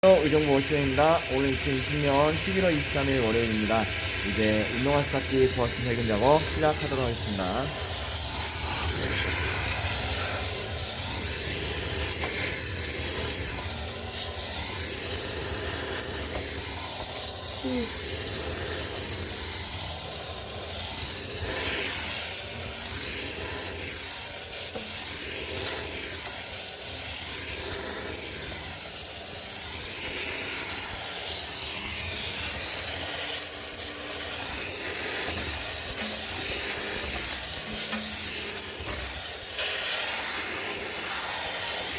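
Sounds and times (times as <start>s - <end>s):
steam cleaner jet hissing: 0.0s - 41.9s.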